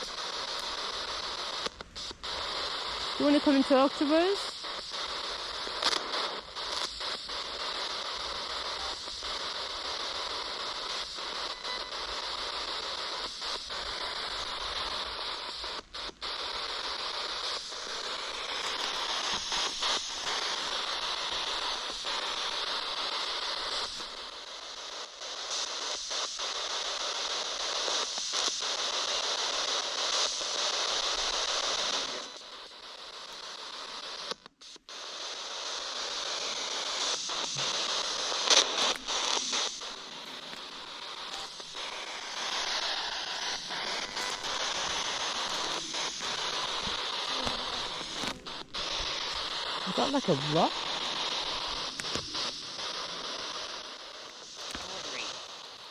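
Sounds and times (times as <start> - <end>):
radio static hiss: 0.0 - 55.9.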